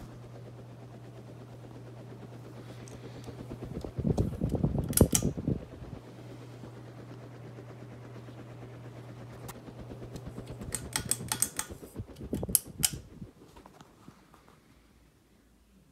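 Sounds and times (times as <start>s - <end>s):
ceiling fan motor humming: 0.0s - 15.9s.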